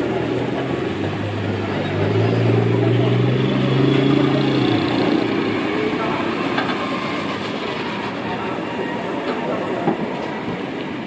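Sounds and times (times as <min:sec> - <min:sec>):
market bustle: 0:00.0 - 0:11.0.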